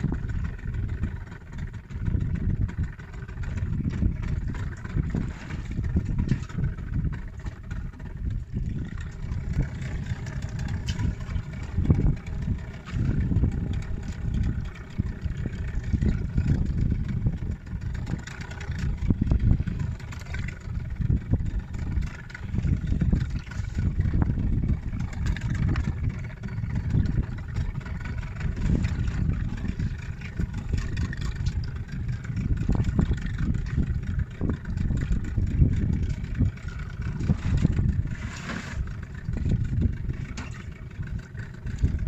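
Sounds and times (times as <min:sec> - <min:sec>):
outboard engine running: 0:00.0 - 0:42.0
wind rumbling on microphone: 0:00.0 - 0:42.0.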